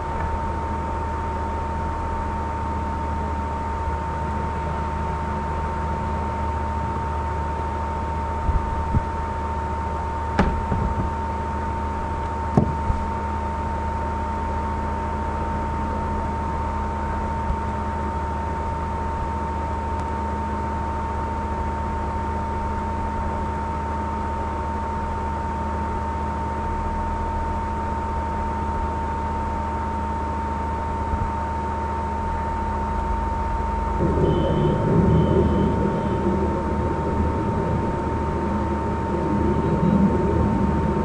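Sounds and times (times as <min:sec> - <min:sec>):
electrical hum and hiss: 0:00.0 - 0:41.0
high whine: 0:00.0 - 0:41.0.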